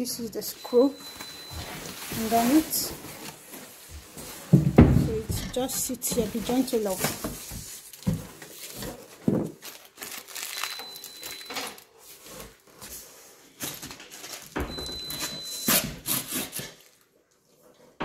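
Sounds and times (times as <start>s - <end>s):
cardboard and packing rustling: 0.0s - 17.1s.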